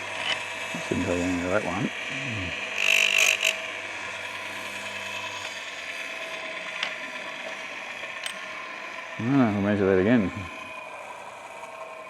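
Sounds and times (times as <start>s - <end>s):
grinding wheel on chain tooth: 0.0s - 12.0s
motor humming: 0.0s - 12.0s.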